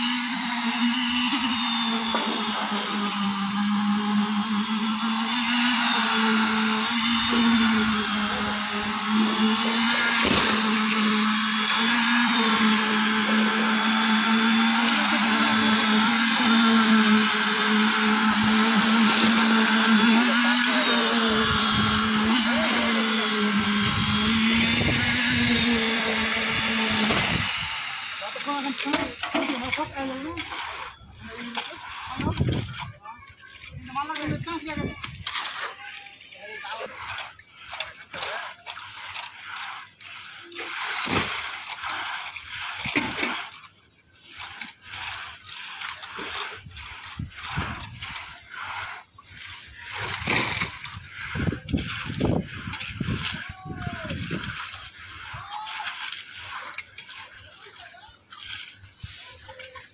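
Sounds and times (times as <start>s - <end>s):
concrete vibrator humming: 0.0s - 59.9s.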